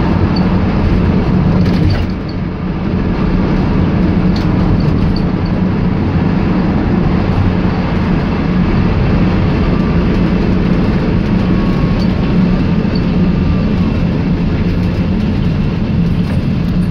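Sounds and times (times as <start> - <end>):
minibus engine running: 0.0 - 16.9
road noise: 0.0 - 16.9.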